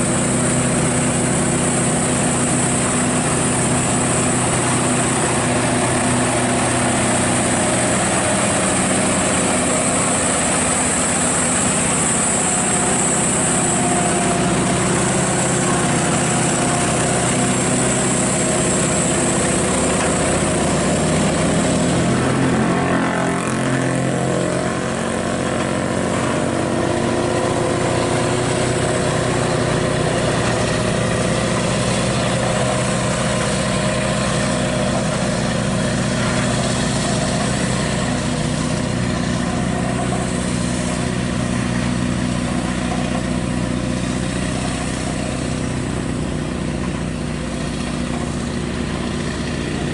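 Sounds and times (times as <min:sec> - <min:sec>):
truck engine idling: 0:00.0 - 0:49.9.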